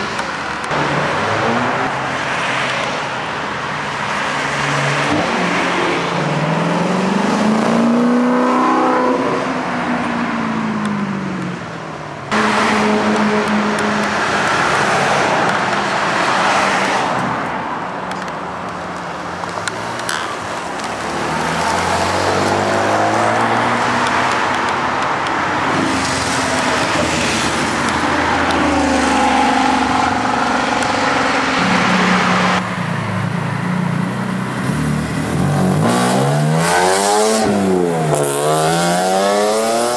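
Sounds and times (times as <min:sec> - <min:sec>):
sports car engines revving: 0:00.0 - 0:39.9.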